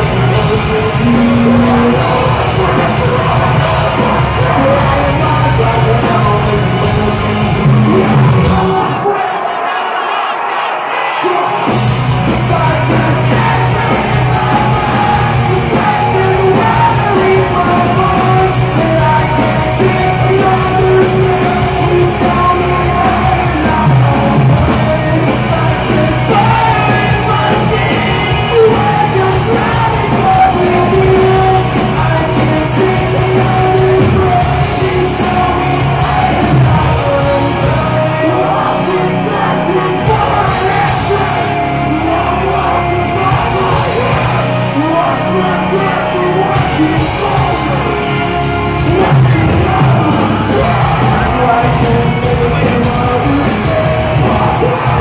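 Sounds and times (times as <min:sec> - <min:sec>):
heavy band playing live: 0:00.0 - 0:55.0
singer's vocals: 0:00.0 - 0:55.0.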